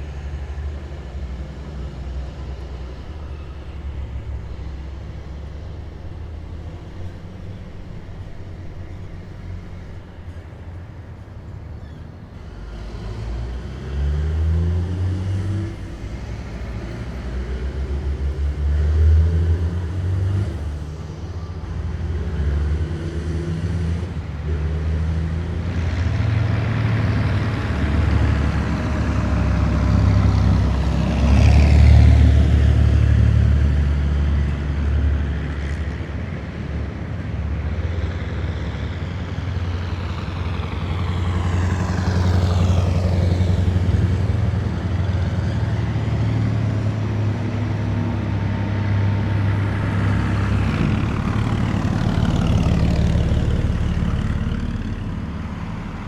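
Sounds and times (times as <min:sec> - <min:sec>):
heavy vehicle engines rumbling: 0:00.0 - 0:56.0.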